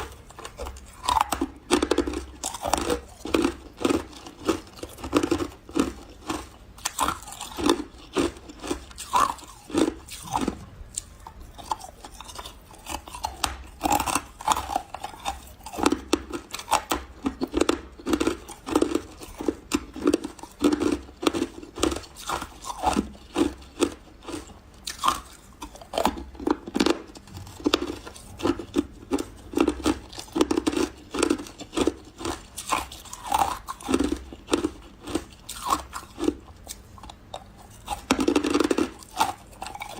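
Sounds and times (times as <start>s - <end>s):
biting and chewing ice: 0.0s - 39.9s.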